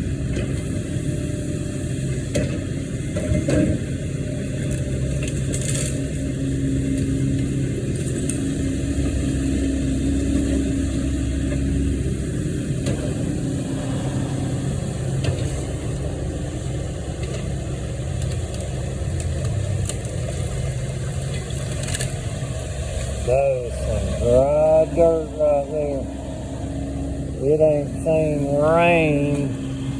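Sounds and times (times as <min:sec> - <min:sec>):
engine running at low speed: 0:00.0 - 0:29.9.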